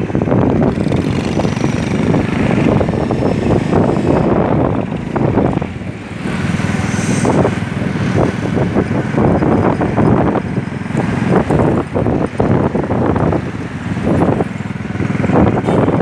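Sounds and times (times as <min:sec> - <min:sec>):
traffic noise: 0:00.0 - 0:16.0
vehicle engine: 0:00.0 - 0:16.0
wind rushing over microphone: 0:00.0 - 0:16.0.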